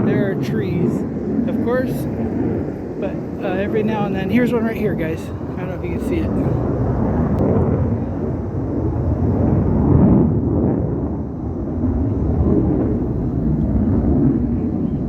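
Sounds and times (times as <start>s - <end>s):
military jet flying over: 0.0s - 15.0s.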